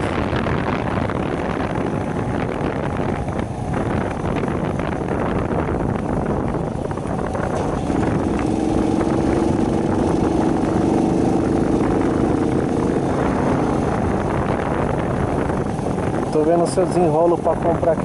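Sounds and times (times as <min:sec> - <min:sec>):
motorcycle engine: 0:00.0 - 0:18.0
wind buffeting microphone: 0:00.0 - 0:18.0.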